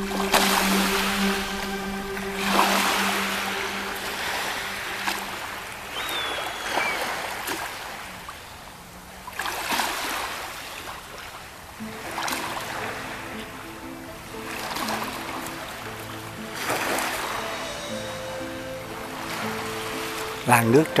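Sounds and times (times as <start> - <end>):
lake waves lapping on shore: 0.0 - 21.0.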